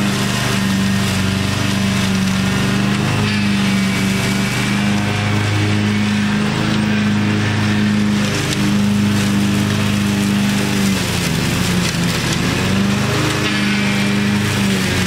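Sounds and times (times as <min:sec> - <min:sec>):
cutting deck whirring: 0:00.0 - 0:15.0
lawn mower engine running: 0:00.0 - 0:15.0.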